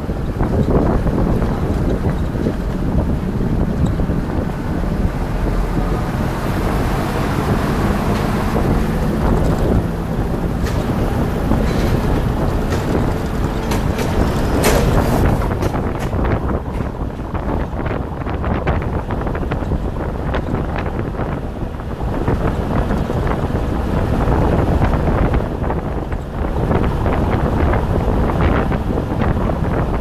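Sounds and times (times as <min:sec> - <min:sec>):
car engine and road noise: 0:00.0 - 0:30.0
wind buffeting microphone: 0:00.0 - 0:30.0.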